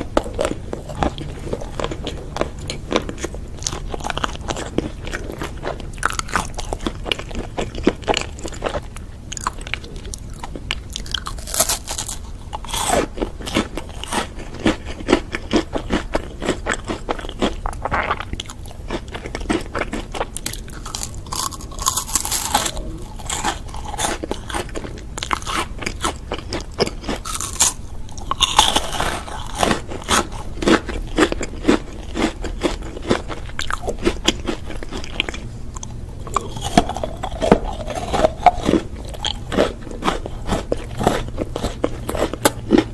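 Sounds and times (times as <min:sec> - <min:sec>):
crunchy bites and chewing: 0:00.0 - 0:42.9.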